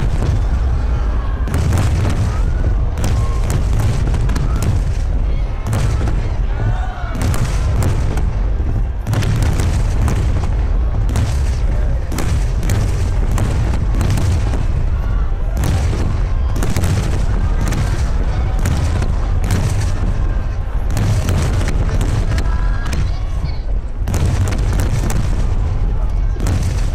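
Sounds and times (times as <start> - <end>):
deep firework booms: 0.0 - 26.9.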